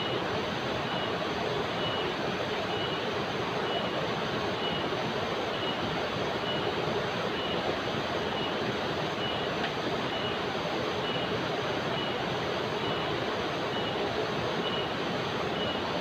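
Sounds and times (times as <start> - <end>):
river rapids rushing over boulders: 0.0 - 16.0.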